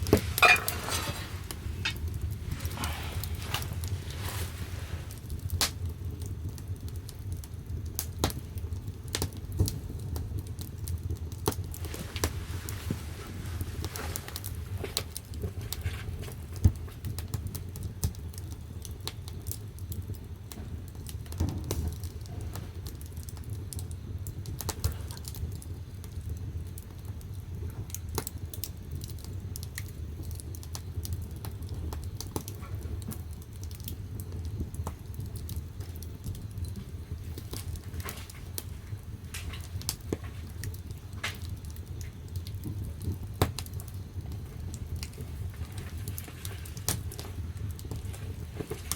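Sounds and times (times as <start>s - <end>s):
firewood crackling and popping: 0.0s - 48.9s
low rumble of fire: 0.0s - 48.9s.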